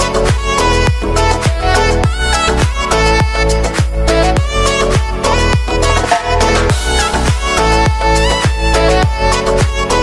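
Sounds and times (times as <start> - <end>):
upbeat dance music: 0.0 - 10.0
heavy kick drum beat: 0.3 - 10.0.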